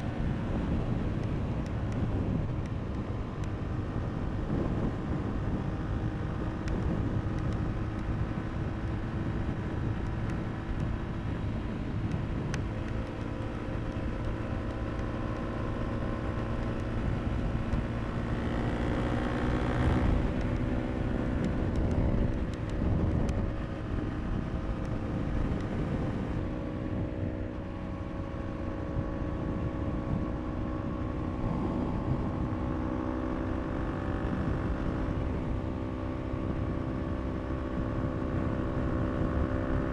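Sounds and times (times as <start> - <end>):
motorcycle engine running: 0.0 - 39.9
road and wind rush: 0.0 - 39.9.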